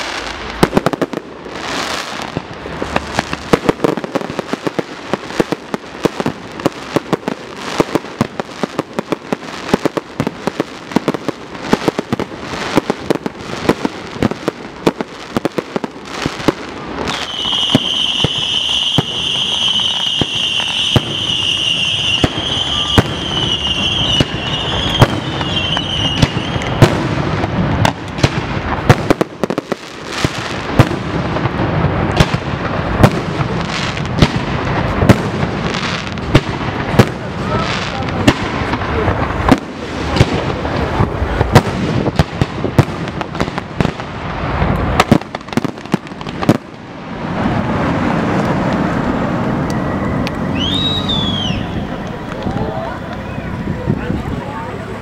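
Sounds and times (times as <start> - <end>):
whistling firework: 0.0 - 54.4
fireworks crackling and banging: 0.0 - 55.0.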